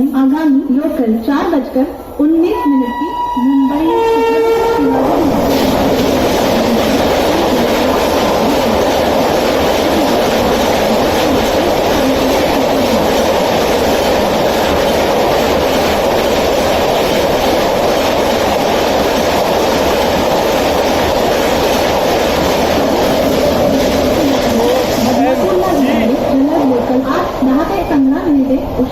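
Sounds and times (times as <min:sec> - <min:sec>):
train wheels rushing on rails: 0:00.0 - 0:28.9.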